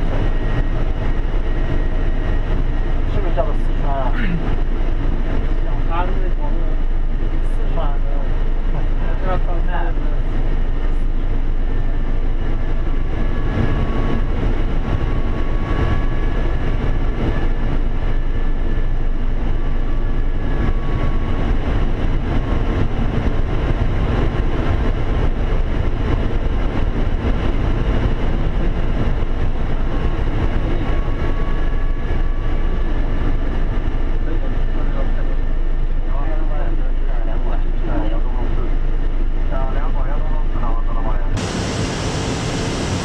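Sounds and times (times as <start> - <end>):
rushing cockpit noise: 0.0 - 43.0.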